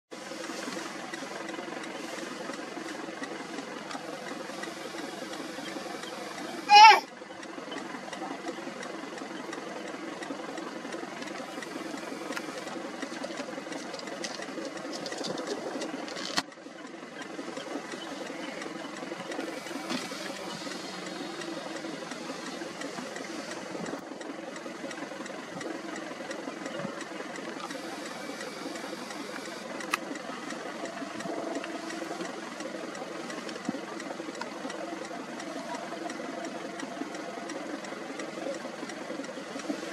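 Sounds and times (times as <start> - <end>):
low mechanical hum: 0.1 - 39.9.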